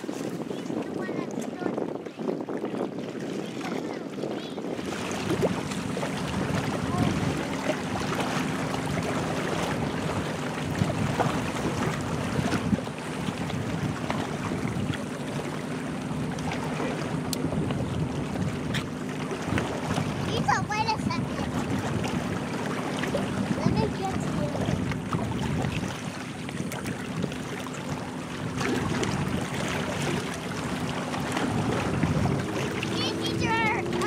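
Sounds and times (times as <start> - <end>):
waves lapping against rocks: 0.0 - 34.0
wind on microphone: 0.0 - 34.0.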